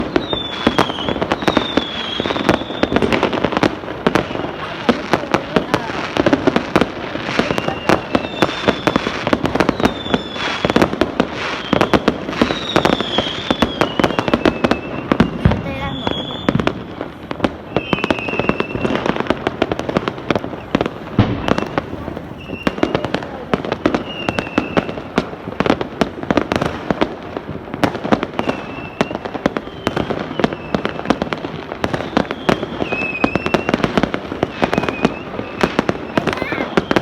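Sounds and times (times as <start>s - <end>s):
fireworks bangs and crackling: 0.0s - 37.0s
high whistling fireworks: 0.0s - 37.0s.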